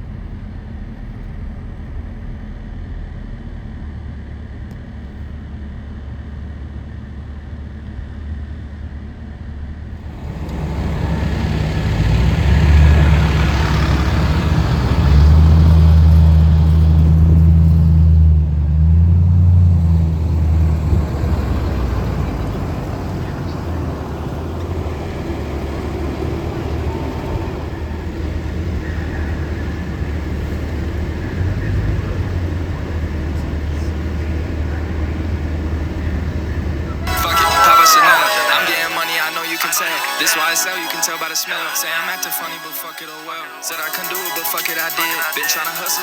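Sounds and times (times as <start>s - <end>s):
diesel engine rumbling: 0.0s - 6.6s, 9.7s - 43.0s.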